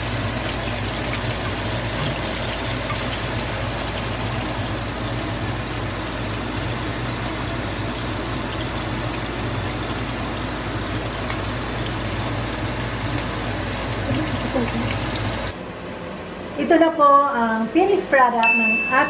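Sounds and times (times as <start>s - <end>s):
chicken sizzling in oil: 0.0s - 15.5s
low steady hum: 0.0s - 19.0s.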